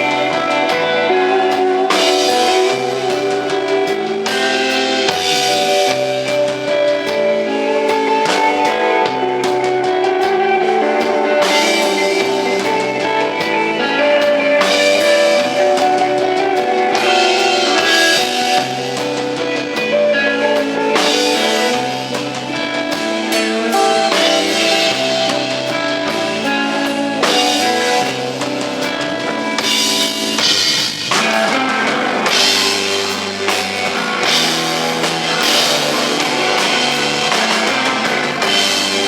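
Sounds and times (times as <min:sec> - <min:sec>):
bass guitar: 0:00.0 - 0:39.0
drum kit: 0:00.0 - 0:39.0
electric guitar notes: 0:00.0 - 0:39.0.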